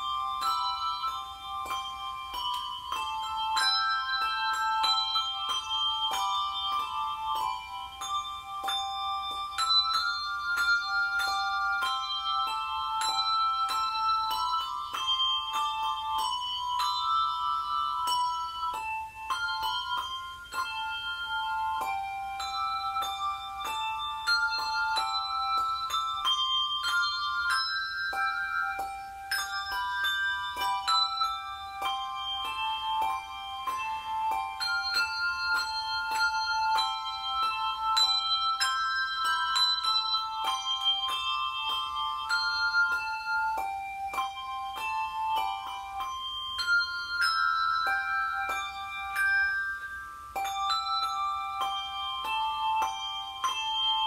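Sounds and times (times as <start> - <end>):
handbells playing a tune: 0.0 - 54.0.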